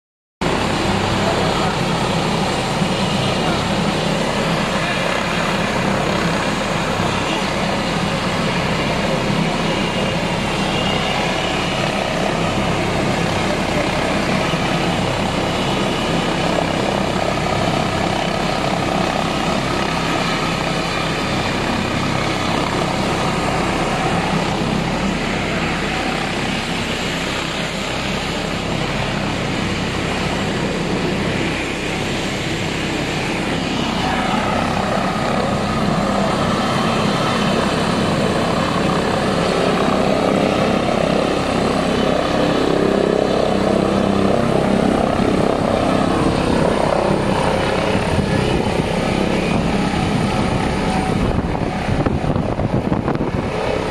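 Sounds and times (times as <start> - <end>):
helicopter rotor noise: 0.4 - 53.9
helicopter turbine whine: 0.4 - 53.9.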